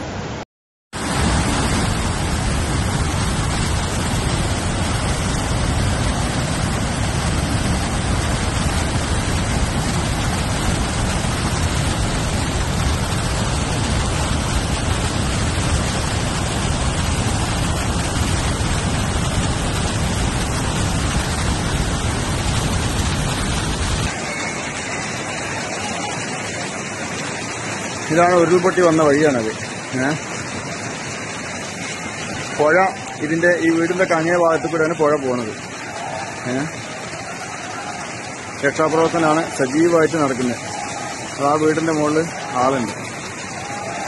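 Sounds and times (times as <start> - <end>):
waterfall rushing: 1.0 - 44.0.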